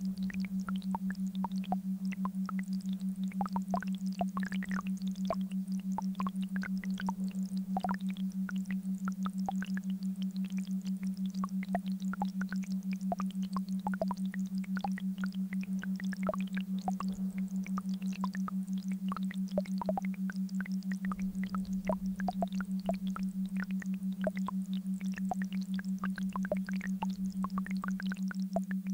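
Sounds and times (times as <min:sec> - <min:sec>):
pulsing low hum: 0:00.0 - 0:28.9.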